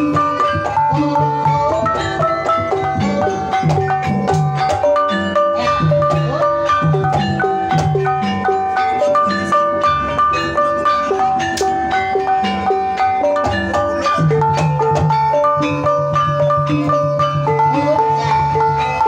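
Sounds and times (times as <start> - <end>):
gamelan playing: 0.0 - 19.0.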